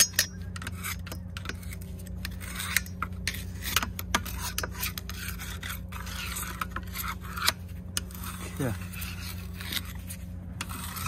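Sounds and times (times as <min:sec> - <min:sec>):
hand tool scraping metal wheel: 0:00.0 - 0:11.0
steady low hum: 0:00.0 - 0:11.0.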